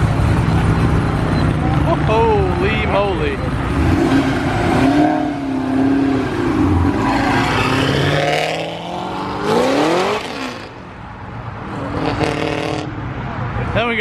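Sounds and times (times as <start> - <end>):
car engine revving: 0.0 - 11.0, 11.6 - 13.0
another car engine: 0.0 - 13.8.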